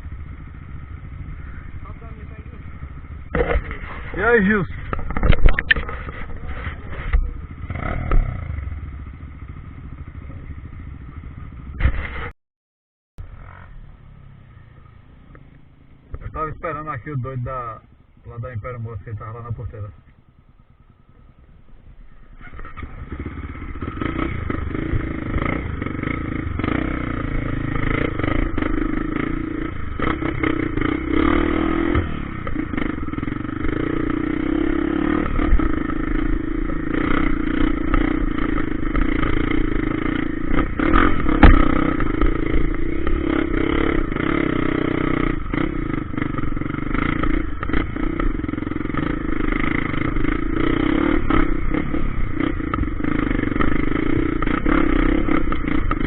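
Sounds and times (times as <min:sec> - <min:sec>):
dirt bike engine running: 0:00.0 - 0:12.3, 0:13.2 - 0:56.0.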